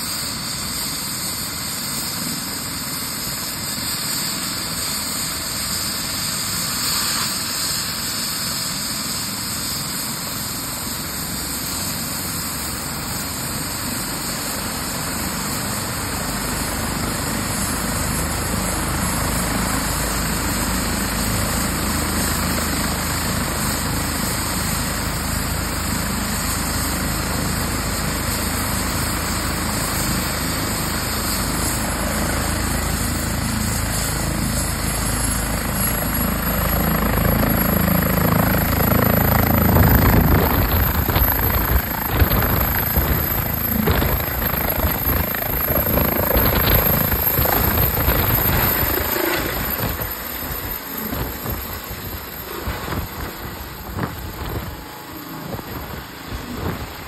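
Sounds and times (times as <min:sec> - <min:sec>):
helicopter turbine and rotor: 0:00.0 - 0:57.0.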